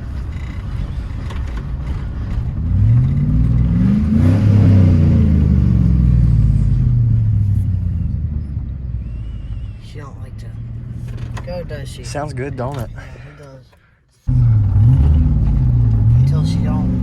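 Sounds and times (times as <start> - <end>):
loud truck engine accelerating: 0.0 - 11.4, 14.3 - 17.0.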